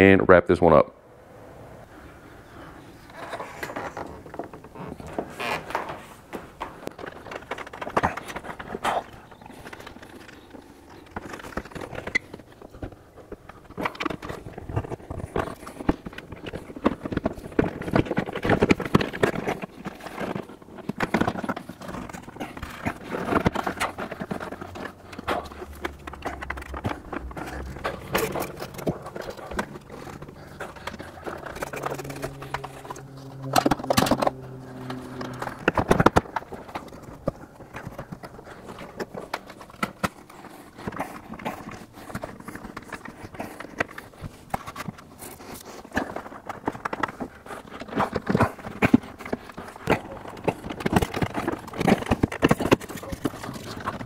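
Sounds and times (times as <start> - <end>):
plastic bumper scraping: 2.5 - 54.0.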